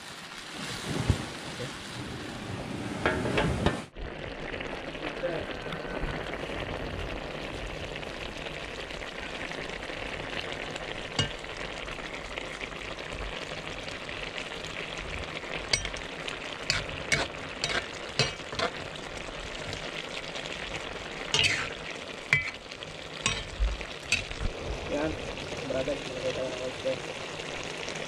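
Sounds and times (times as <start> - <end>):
food sizzling in a pan: 0.0 - 2.2, 3.0 - 28.0.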